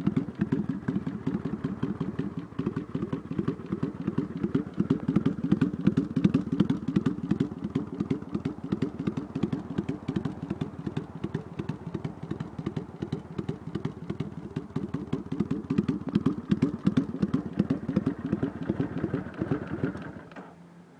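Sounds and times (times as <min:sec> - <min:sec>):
motorcycle engine idling: 0:00.0 - 0:20.5.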